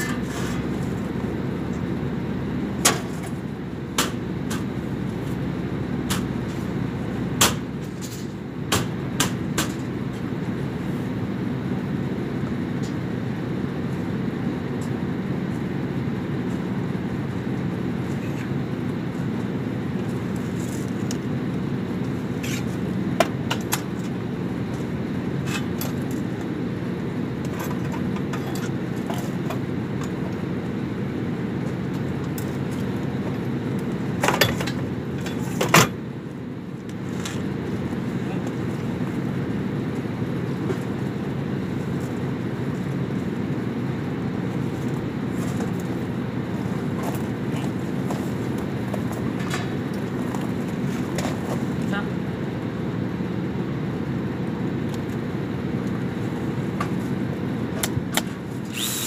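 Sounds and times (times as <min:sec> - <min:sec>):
low machinery hum: 0:00.0 - 0:59.0.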